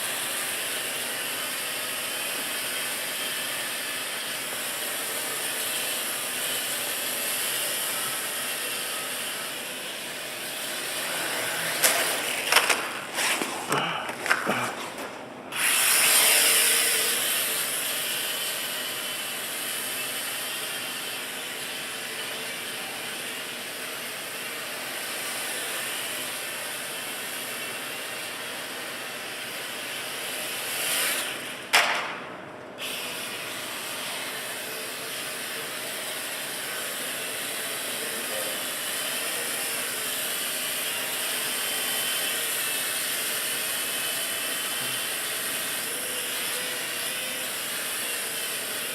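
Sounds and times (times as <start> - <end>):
quadcopter motors buzzing: 0.0 - 31.7, 32.8 - 48.9.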